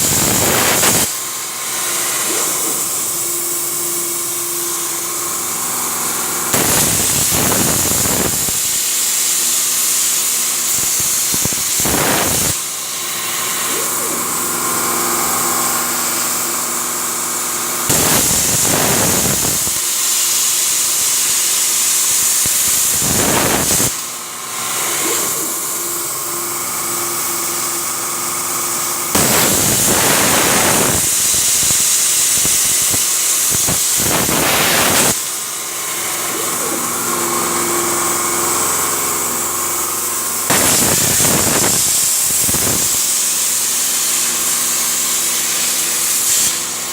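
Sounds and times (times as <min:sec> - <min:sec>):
plasma torch cutting steel hiss: 0:00.0 - 0:46.9.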